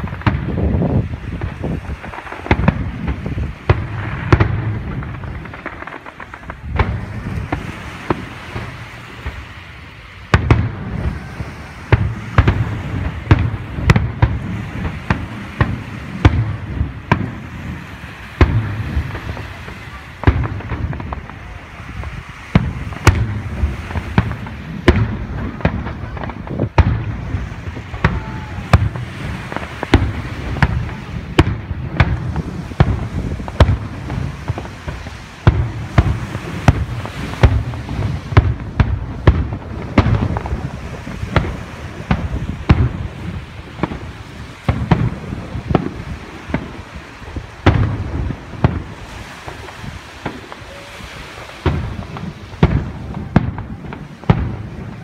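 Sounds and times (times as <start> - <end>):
firework shells bursting: 0.0 - 55.0.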